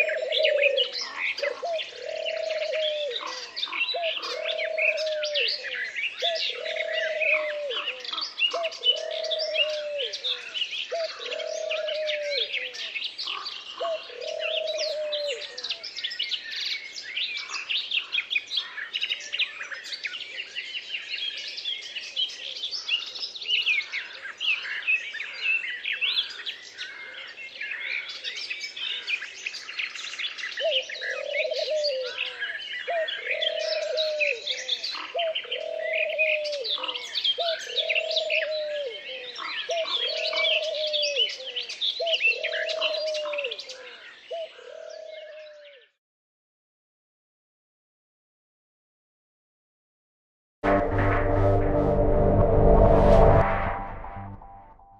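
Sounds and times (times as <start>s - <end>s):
songbirds chirping and singing: 0.0s - 46.0s.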